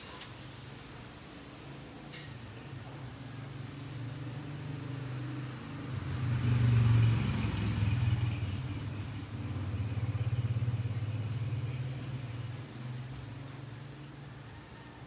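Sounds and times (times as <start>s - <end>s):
passing vehicle engine rumble: 2.6s - 15.0s.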